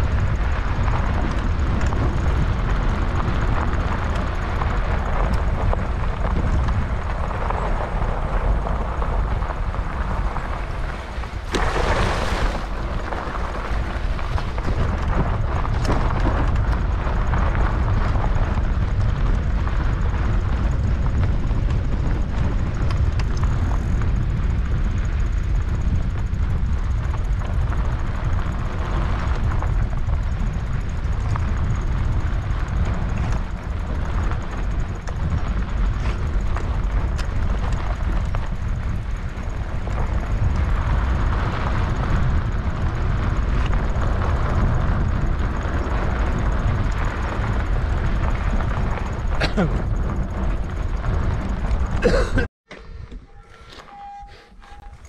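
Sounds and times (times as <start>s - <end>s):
bike tyres rolling on dirt: 0.0s - 52.5s
wind buffeting microphone: 0.0s - 53.1s.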